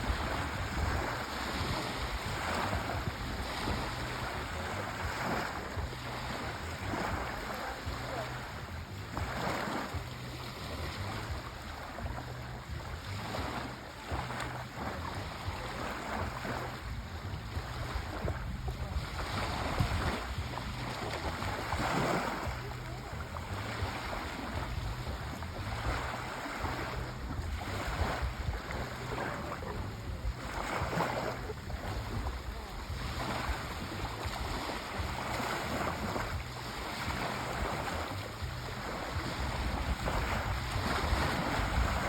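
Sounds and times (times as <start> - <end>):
sea waves washing in: 0.0 - 42.0
wind rumble: 0.0 - 42.0.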